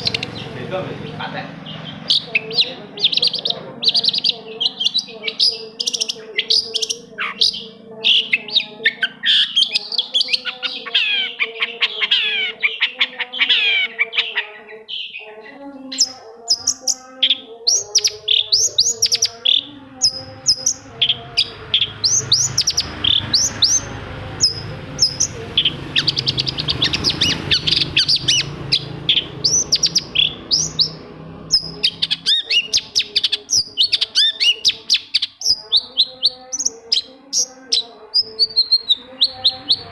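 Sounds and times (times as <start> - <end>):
bird singing chirps and whistles: 1.1 - 15.2, 16.0 - 39.9.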